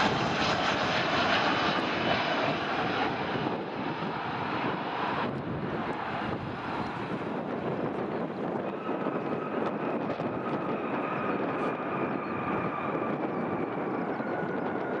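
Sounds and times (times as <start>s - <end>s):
jet engines rolling out: 0.0s - 15.0s.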